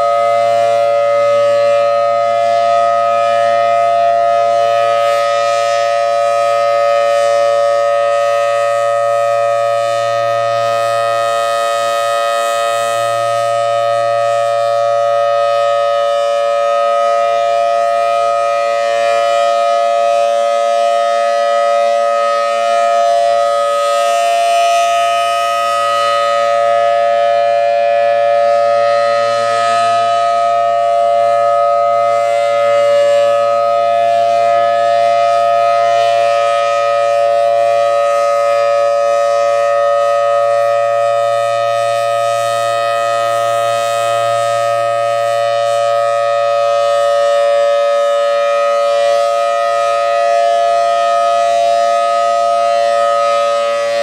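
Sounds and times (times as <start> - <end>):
steady warning siren: 0.0 - 54.0.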